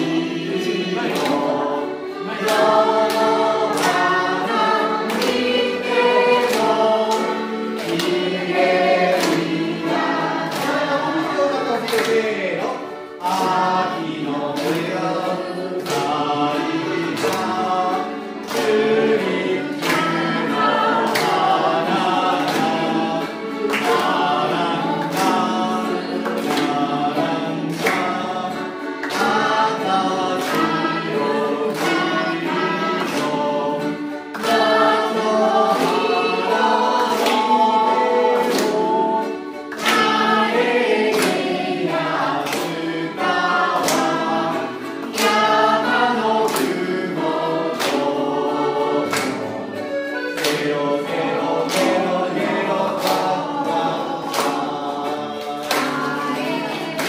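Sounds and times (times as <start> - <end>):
chorus singing with band: 0.0 - 12.1, 13.2 - 57.0.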